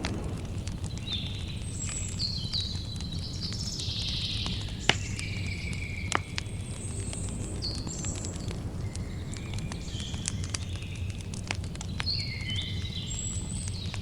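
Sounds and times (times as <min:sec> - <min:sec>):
birds calling: 0:00.0 - 0:14.0
campfire crackling: 0:00.0 - 0:14.0
sharp fire pops: 0:00.0 - 0:14.0.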